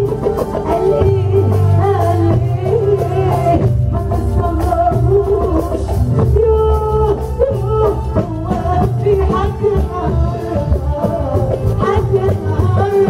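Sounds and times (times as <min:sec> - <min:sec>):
live band music: 0:00.0 - 0:13.0
woman singing into a microphone: 0:00.0 - 0:13.0.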